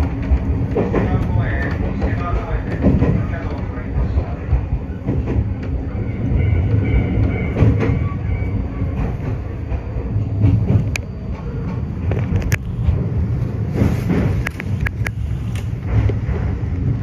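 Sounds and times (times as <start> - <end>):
electric train rumbling: 0.0 - 17.0
wheels clicking on track: 0.0 - 17.0.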